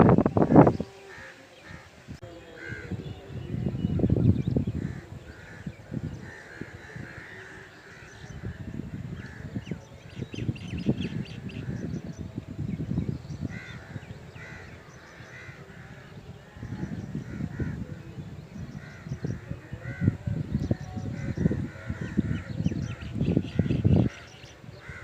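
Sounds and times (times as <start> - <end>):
birds harsh calls: 0.0 - 25.0
wind buffeting microphone: 0.0 - 25.0
small birds chirping: 2.7 - 25.0.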